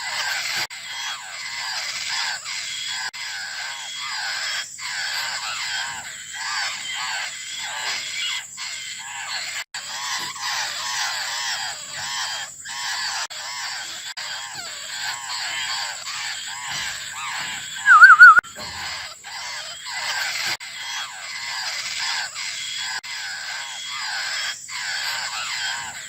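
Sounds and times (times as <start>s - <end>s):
nestlings begging calls: 0.0s - 26.0s.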